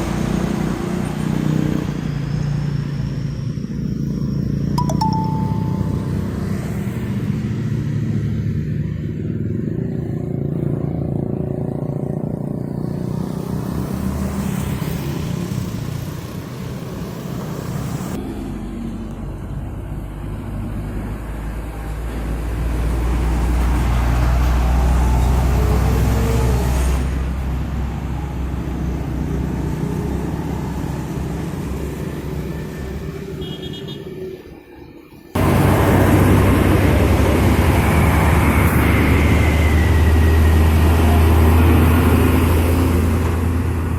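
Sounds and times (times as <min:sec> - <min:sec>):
trucks and buses passing: 0:00.0 - 0:43.9.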